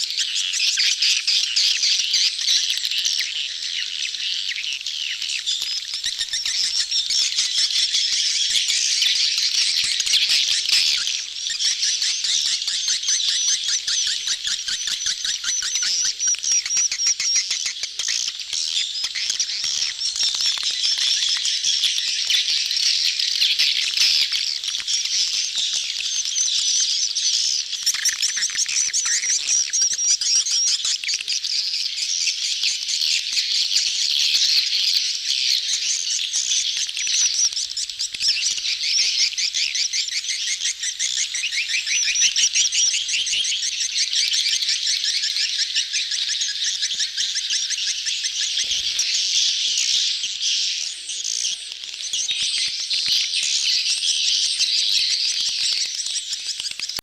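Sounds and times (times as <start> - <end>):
swiftlets twittering and clicking: 5.4 - 33.4, 34.3 - 57.0.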